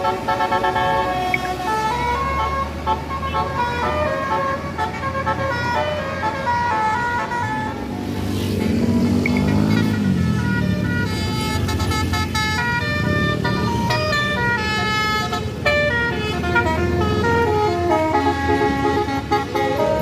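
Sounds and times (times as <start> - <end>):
bus horn playing a tune: 0.0 - 8.0, 9.5 - 20.0
bus engine rumble: 0.0 - 20.0.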